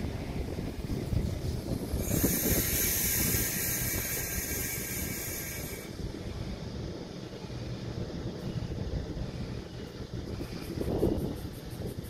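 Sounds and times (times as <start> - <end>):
loud air hiss: 0.0 - 12.0
train rumbling slowly: 0.0 - 12.0.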